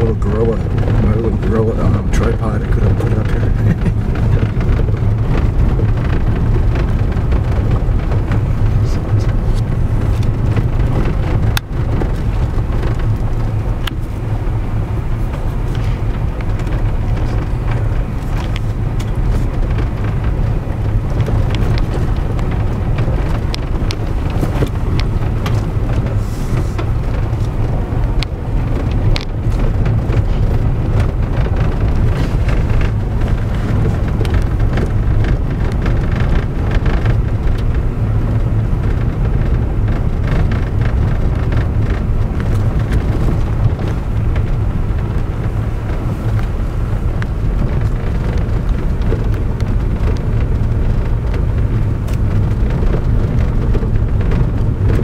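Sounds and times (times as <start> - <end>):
engine and tyre drone: 0.0 - 55.0.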